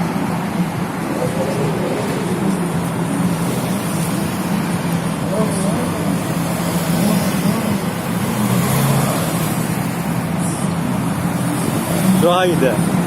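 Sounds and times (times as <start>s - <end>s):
car engines droning: 0.0s - 13.0s
noisy haze: 0.0s - 13.0s.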